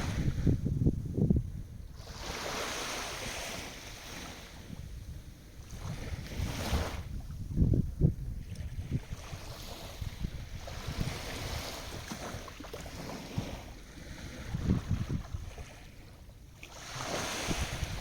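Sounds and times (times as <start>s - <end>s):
sea waves washing in: 0.0s - 0.8s, 1.8s - 7.4s, 8.7s - 18.0s
wind buffeting microphone: 0.0s - 16.2s, 16.8s - 18.0s.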